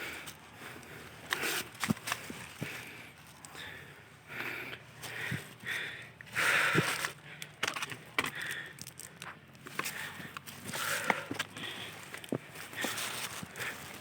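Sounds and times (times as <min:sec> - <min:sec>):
crunching and clicking: 0:00.0 - 0:14.0
footsteps on trail: 0:00.0 - 0:14.0
person breathing hard: 0:00.0 - 0:14.0.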